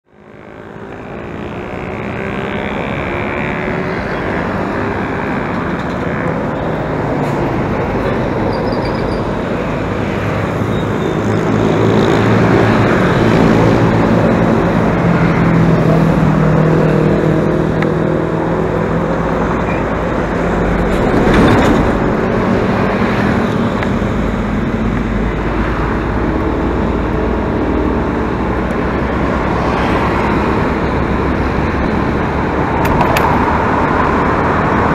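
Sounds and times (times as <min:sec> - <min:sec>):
road and engine noise: 0:00.0 - 0:34.9
passing traffic: 0:00.1 - 0:34.9.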